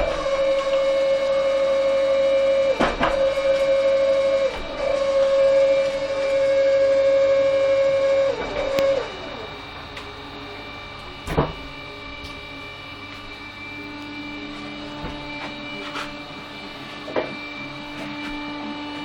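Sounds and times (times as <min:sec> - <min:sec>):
machine drive whining: 0:00.0 - 0:19.0.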